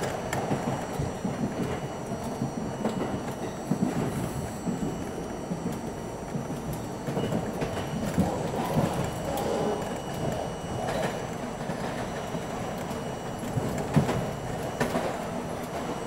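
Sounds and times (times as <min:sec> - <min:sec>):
subway wheels rumbling on rail: 0:00.0 - 0:16.0.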